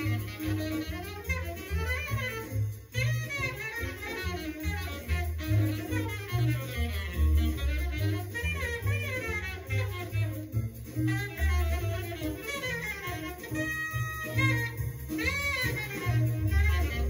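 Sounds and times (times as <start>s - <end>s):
saxophone: 0.0s - 17.0s
walking double bass: 0.0s - 17.0s.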